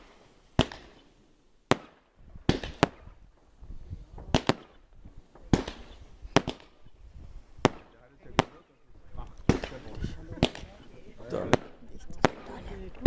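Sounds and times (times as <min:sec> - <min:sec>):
fireworks bangs: 0:00.0 - 0:01.1, 0:01.7 - 0:13.0
fireworks crackling hiss: 0:00.0 - 0:13.0.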